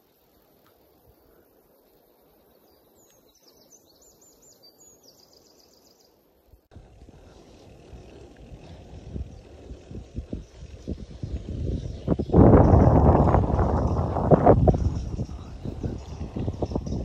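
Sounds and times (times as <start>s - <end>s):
rural ambience: 0.0s - 17.0s
songbird singing: 0.0s - 17.0s.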